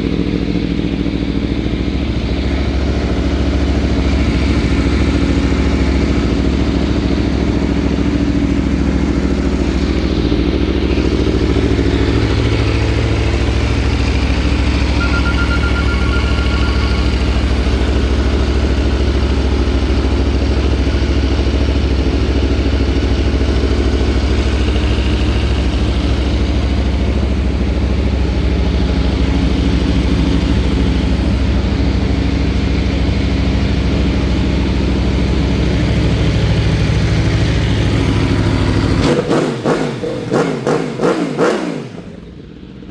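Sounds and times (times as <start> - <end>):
motorcycle engine running steadily: 0.0 - 42.9.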